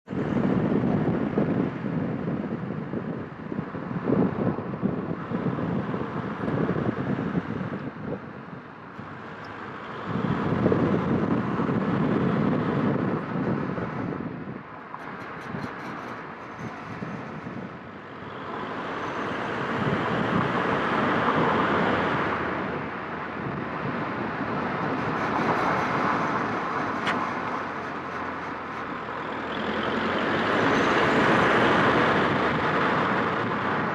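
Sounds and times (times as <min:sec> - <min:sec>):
noise from car wheel: 0:00.0 - 0:33.9
road and wind noise: 0:00.0 - 0:33.9.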